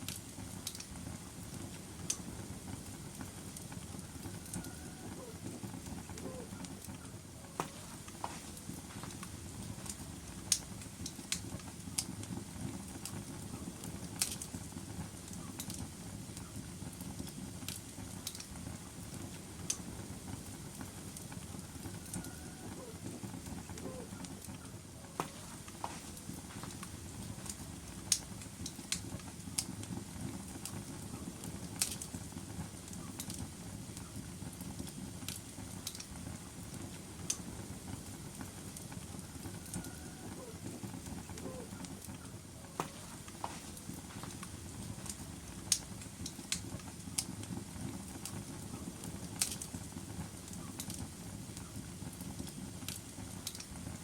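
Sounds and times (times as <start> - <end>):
fireplace flame rumble: 0.0 - 54.0
wood crackles and pops: 0.0 - 54.0.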